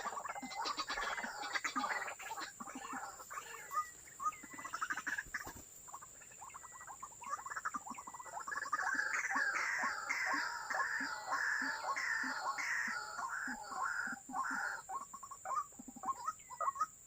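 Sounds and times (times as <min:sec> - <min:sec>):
waterhens croaking chatter: 0:00.0 - 0:17.0.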